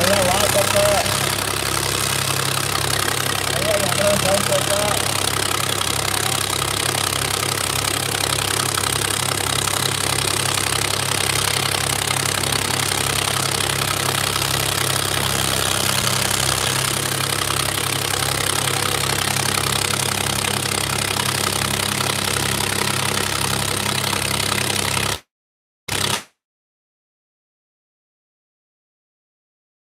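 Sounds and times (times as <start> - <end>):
diesel tractor engine idling: 0.0 - 25.2.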